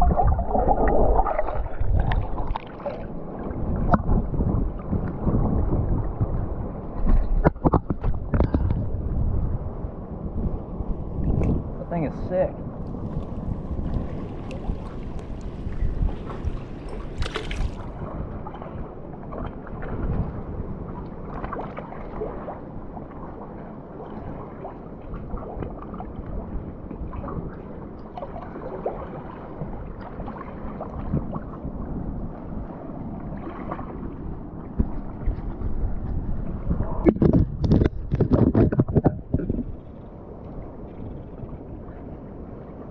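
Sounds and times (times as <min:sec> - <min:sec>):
water splashes: 0:00.0 - 0:08.8, 0:12.3 - 0:39.7
muffled rushing water: 0:00.0 - 0:42.9.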